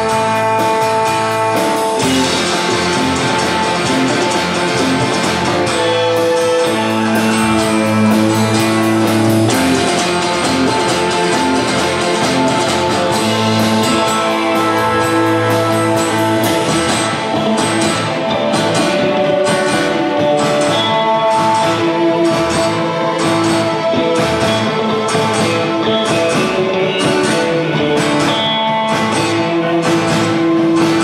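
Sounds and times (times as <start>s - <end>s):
live band with guitar: 0.0s - 31.0s.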